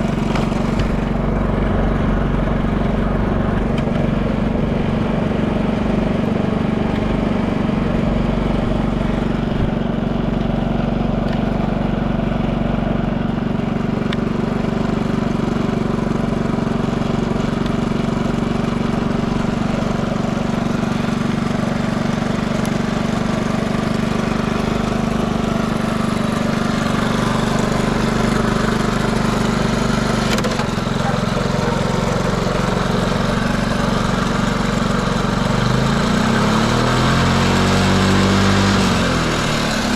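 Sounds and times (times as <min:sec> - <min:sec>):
motorcycle engine idling: 0:00.0 - 0:37.7.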